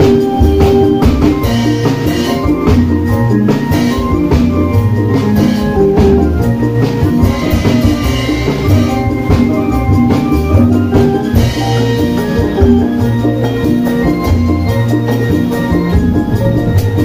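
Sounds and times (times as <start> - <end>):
bright pitched melody: 0.0 - 17.0.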